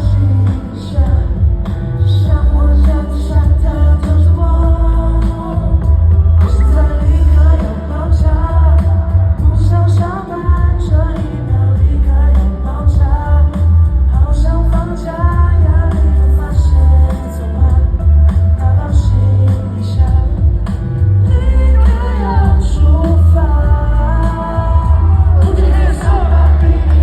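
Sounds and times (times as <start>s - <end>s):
pop song with group singing: 0.0s - 27.0s.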